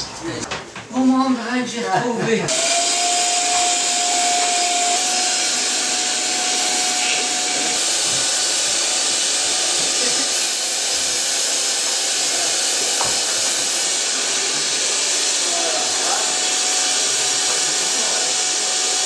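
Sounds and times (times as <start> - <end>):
vacuum cleaner running: 2.4 - 19.0.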